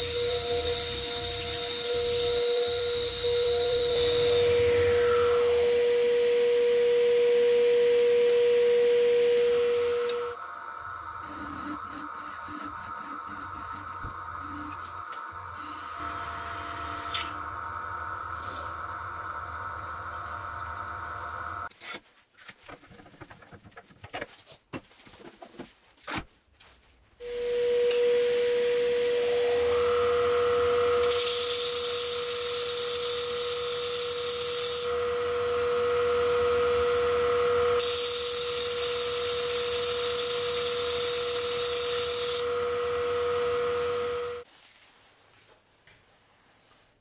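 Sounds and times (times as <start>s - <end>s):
wood lathe whine: 0.0s - 21.7s, 27.2s - 44.5s.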